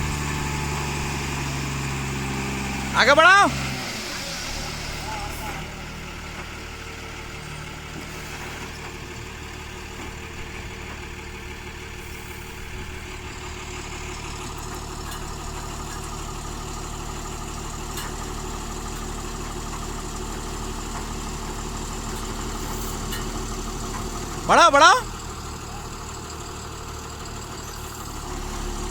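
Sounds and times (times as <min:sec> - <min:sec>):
truck diesel engine running: 0:00.0 - 0:28.9.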